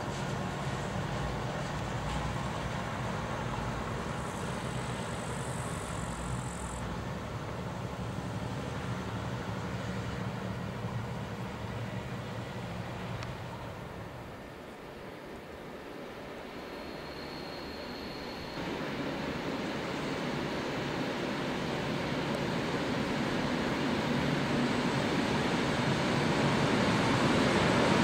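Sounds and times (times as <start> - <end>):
railcar diesel engine running: 0.0 - 28.0.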